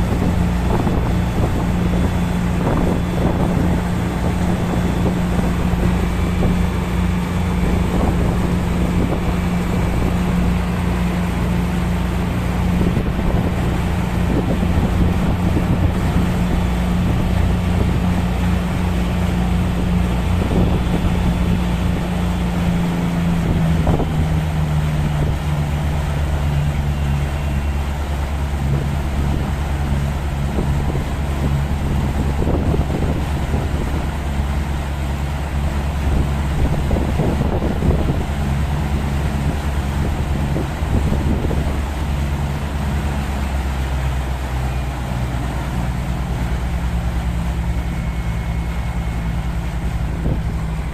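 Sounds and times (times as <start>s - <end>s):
boat engine humming: 0.0s - 50.9s
wind buffeting microphone: 0.0s - 50.9s.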